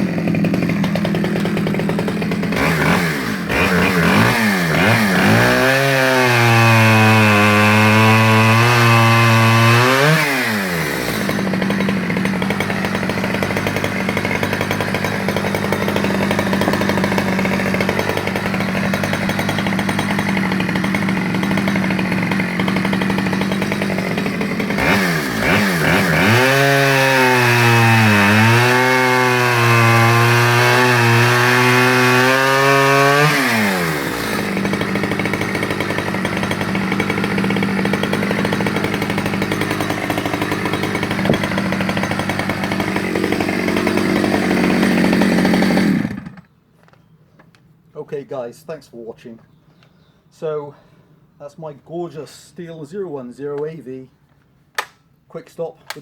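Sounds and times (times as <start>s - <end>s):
chainsaw revving and idling: 0.0s - 46.5s.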